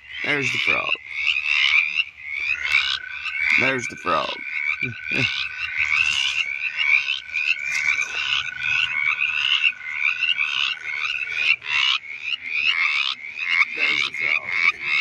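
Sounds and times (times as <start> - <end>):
frogs calling: 0.0 - 15.0.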